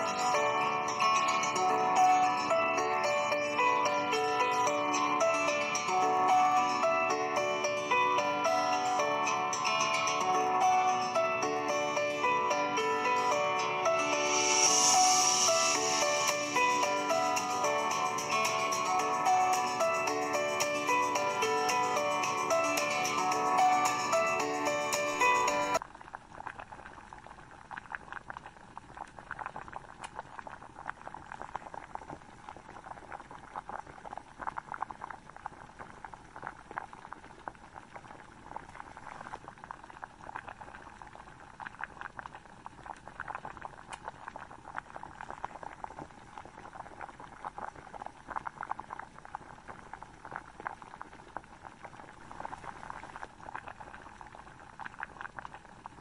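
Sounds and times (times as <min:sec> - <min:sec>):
gravy boiling with bubbles popping: 0:00.0 - 0:56.0.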